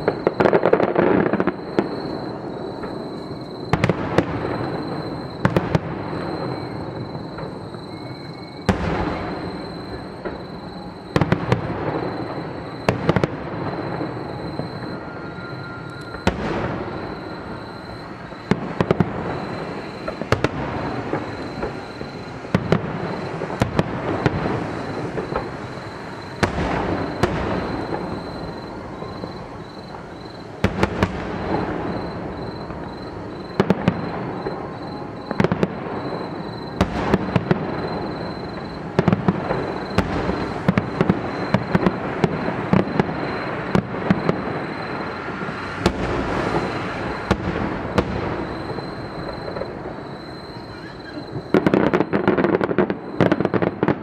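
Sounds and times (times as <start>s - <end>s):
fireworks bursting with bangs: 0.0s - 54.0s.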